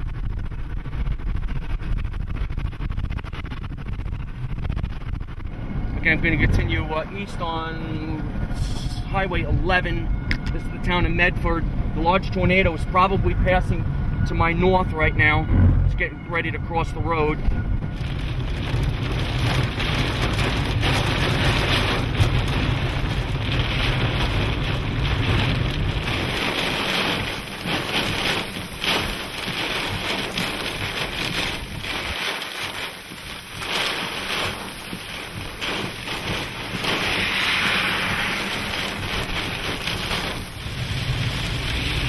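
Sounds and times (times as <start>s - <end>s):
heavy rain beating on car: 0.0s - 11.4s, 15.7s - 42.0s
deep rumble: 0.0s - 42.0s
wind gusts buffeting microphone: 0.0s - 42.0s.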